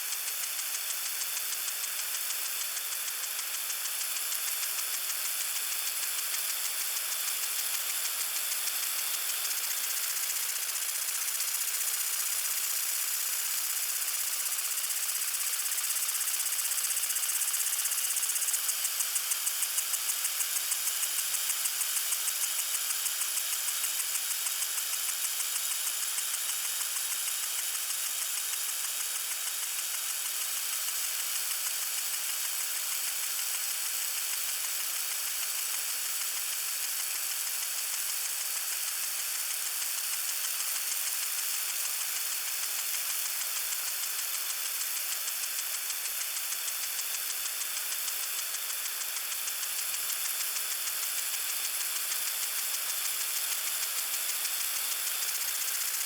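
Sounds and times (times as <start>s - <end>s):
lawn sprinkler spraying water: 0.0s - 56.0s.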